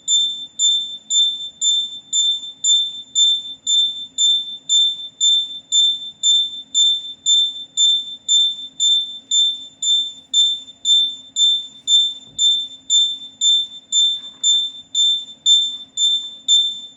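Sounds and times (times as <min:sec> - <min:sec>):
electronic buzzer beeping: 0:00.0 - 0:16.9
faint steady hum: 0:00.0 - 0:16.9.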